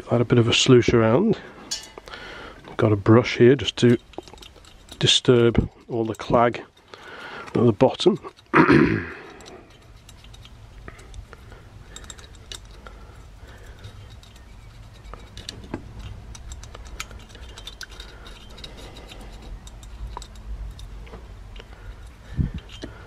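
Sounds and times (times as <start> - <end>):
brush scraping metal bowl: 2.8 - 23.0.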